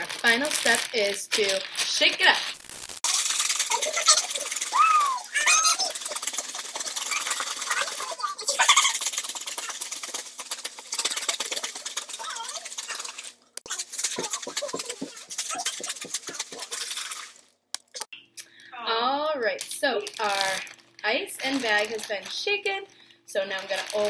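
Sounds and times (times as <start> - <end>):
ice rattling in a shaken bag: 0.0 - 17.5, 20.0 - 20.8, 21.4 - 22.4, 23.5 - 24.0
plastic bag crinkling: 0.0 - 17.5, 20.0 - 22.7, 23.4 - 24.0.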